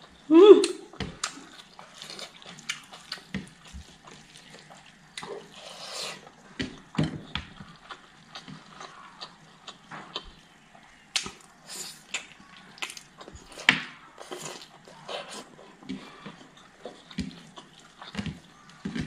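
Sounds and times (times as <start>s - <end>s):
wet chewing and lip smacks: 0.6s - 6.9s, 7.5s - 19.0s
porridge squelching by hand: 1.0s - 19.0s.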